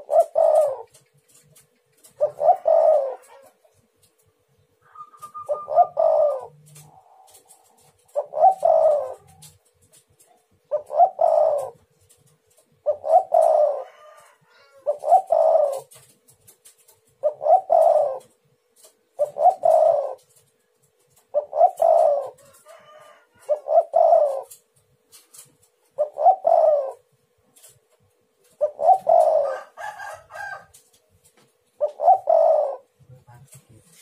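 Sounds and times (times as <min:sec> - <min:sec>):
dove cooing: 0:00.0 - 0:04.2, 0:04.8 - 0:27.8, 0:28.4 - 0:34.0.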